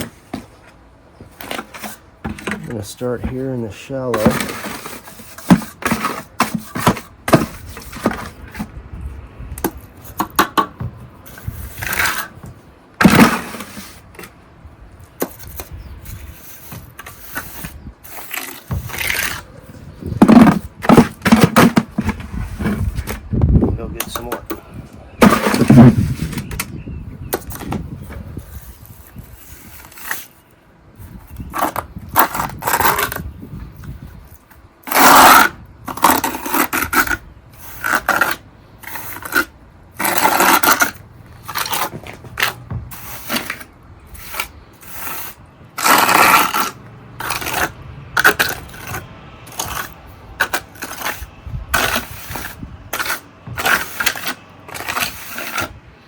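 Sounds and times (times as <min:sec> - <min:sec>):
gritty compound scraping and clinking: 0:00.0 - 0:56.0.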